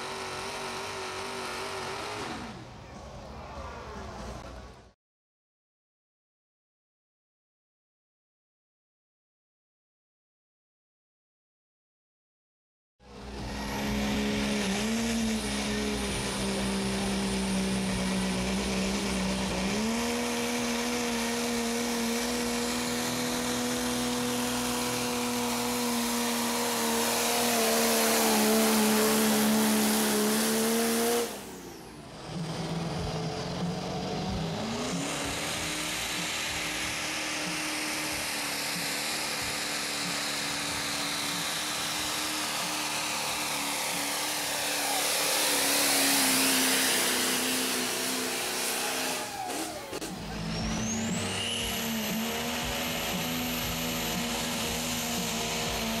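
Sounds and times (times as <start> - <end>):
second diesel engine revving: 0.0 - 2.8, 13.1 - 56.0
diesel truck engine revving: 0.0 - 3.0, 13.0 - 56.0.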